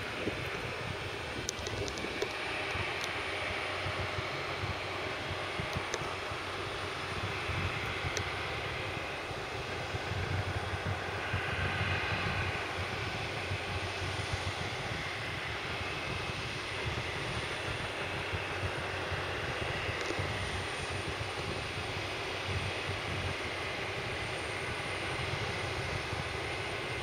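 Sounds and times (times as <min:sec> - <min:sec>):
jet airliner rumble and whine: 0:00.0 - 0:27.0.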